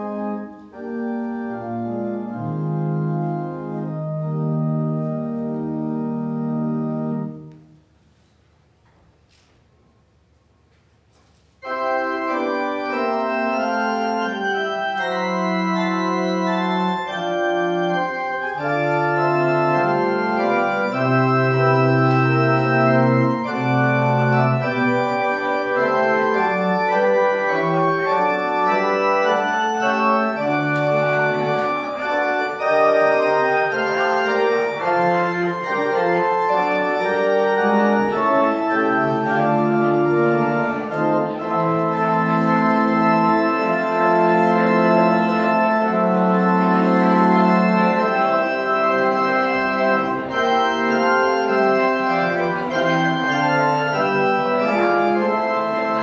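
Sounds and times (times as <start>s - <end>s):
organ playing slow chords: 0.0s - 8.2s, 11.6s - 56.0s.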